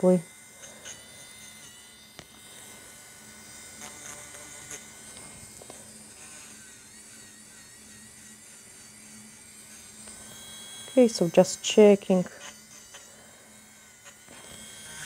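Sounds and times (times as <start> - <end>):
electric nail drill whining: 0.0 - 15.0.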